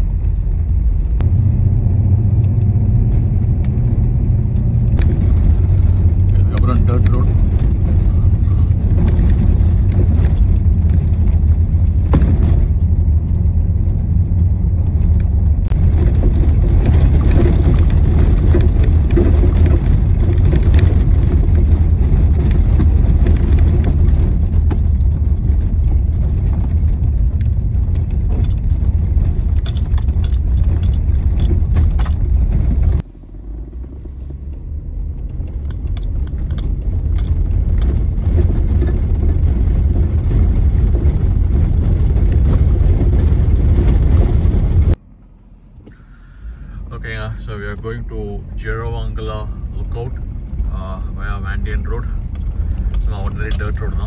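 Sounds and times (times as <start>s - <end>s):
tyres rumbling on dirt road: 0.0s - 54.0s
small knocks and rattles: 2.1s - 45.0s, 49.0s - 54.0s.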